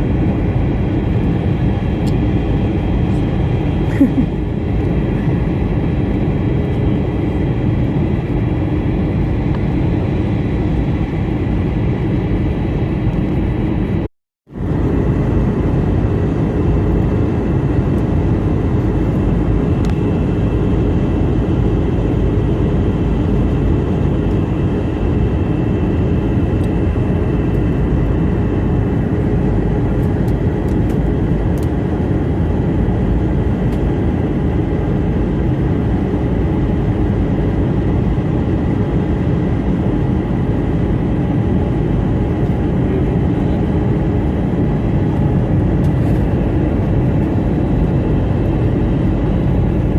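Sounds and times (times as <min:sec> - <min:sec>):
airliner cabin engine rush: 0:00.0 - 0:49.9.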